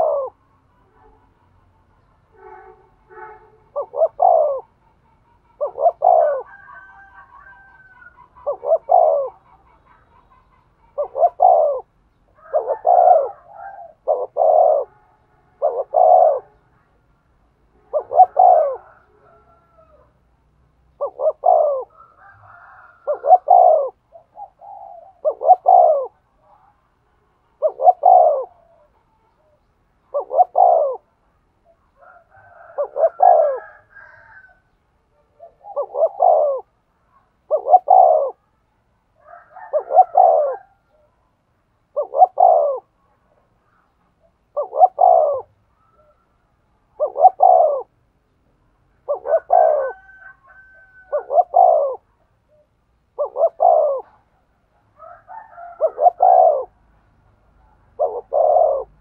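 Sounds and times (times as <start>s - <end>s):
dove cooing: 0.0s - 17.1s, 17.7s - 20.2s, 20.8s - 26.8s, 27.4s - 38.6s, 39.2s - 41.2s, 41.8s - 48.0s, 48.9s - 57.0s, 57.6s - 59.0s.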